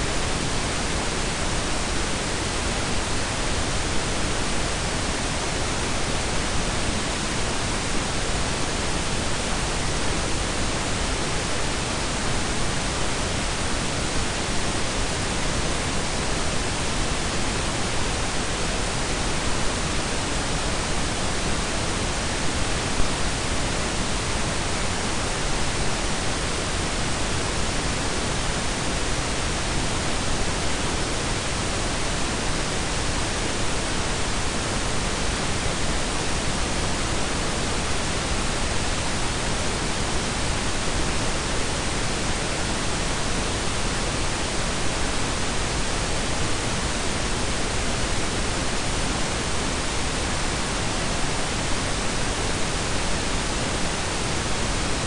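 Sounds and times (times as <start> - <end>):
steady synthetic noise hiss: 0.0 - 55.0.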